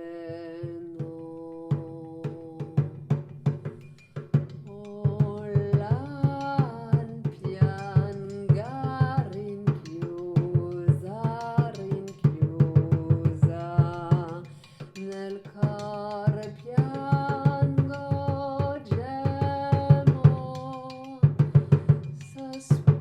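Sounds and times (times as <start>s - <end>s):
woman singing: 0.0s - 3.6s, 4.4s - 23.0s.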